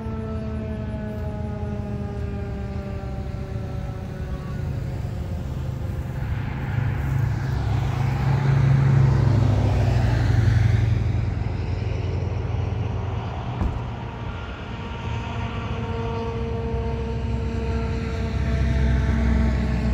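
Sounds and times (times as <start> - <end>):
siren winding down: 0.0 - 19.9
vehicle passing by: 0.0 - 19.9.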